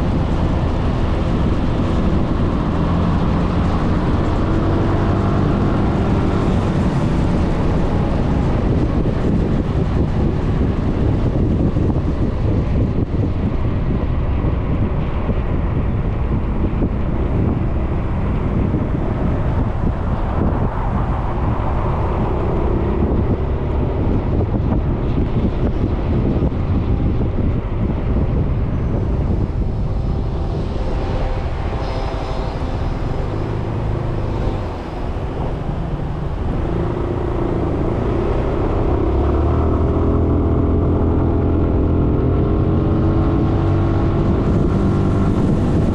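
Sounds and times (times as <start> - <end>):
road rumble: 0.0 - 45.9
wind noise on microphone: 0.0 - 45.9.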